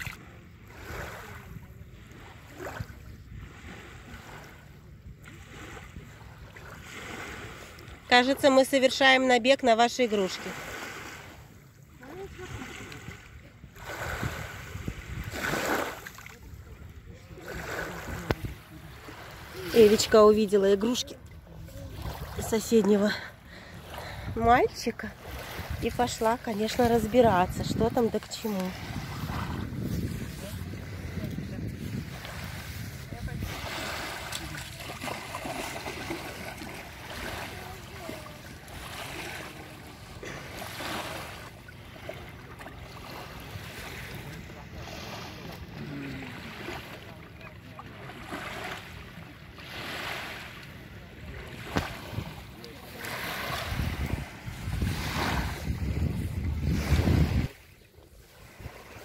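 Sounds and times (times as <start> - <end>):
small waves lapping on beach: 0.0 - 59.0.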